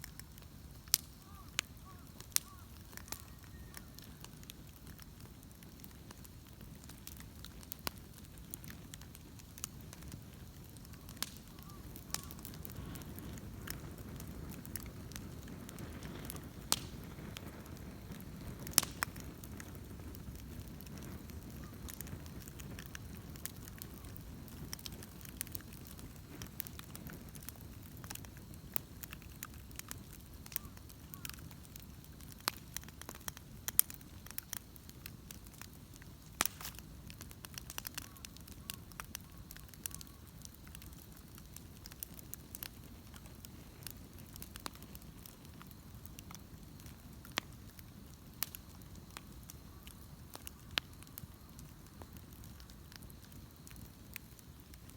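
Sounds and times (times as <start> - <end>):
bonfire flames rushing: 0.0 - 54.9
fire popping and crackling: 0.0 - 54.9.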